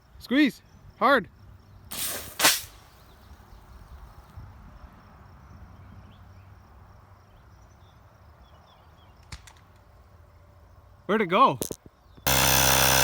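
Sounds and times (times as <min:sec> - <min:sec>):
insects chirping: 0:00.0 - 0:12.9.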